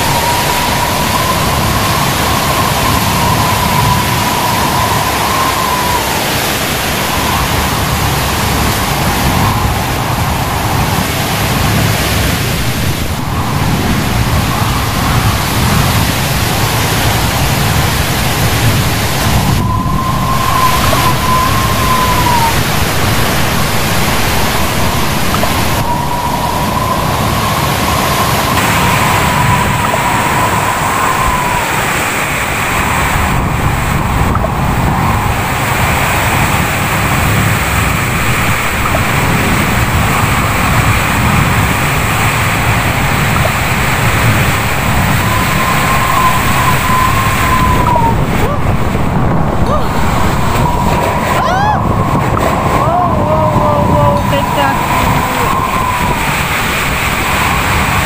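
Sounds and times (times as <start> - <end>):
high wavering whistle: 0.0 - 10.8, 18.6 - 37.2, 38.8 - 48.7, 49.7 - 57.6
heavy rain: 0.0 - 58.0
strong storm wind: 0.0 - 58.0.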